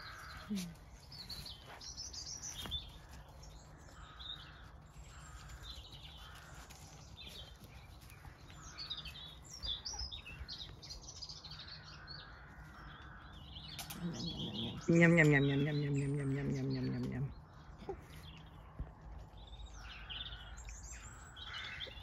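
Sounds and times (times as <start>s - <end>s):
low outdoor hum: 0.0s - 22.0s
wild birds chirping: 0.0s - 22.0s.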